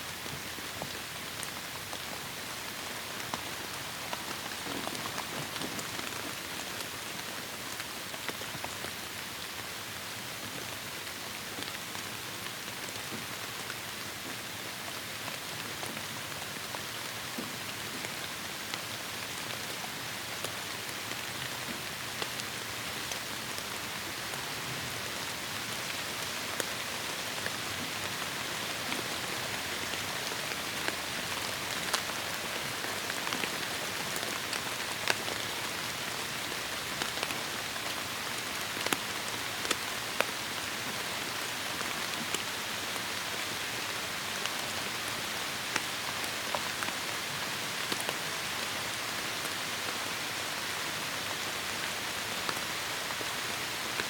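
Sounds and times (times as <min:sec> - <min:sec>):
close raindrops striking: 0:10.6 - 0:54.0.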